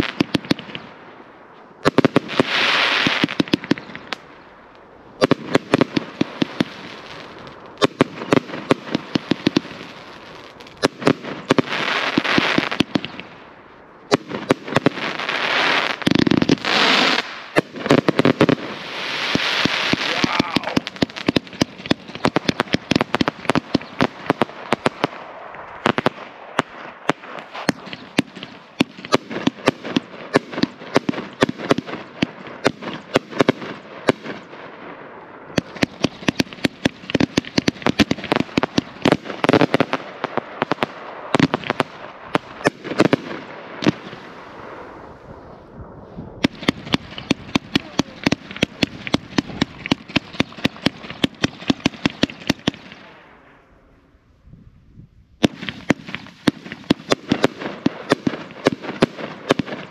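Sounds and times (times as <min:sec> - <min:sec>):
firework barrage: 0:00.0 - 0:59.9.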